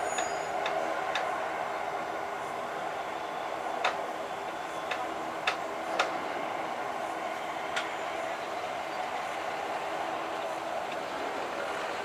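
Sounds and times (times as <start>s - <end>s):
distant jet engines droning: 0.0s - 12.0s.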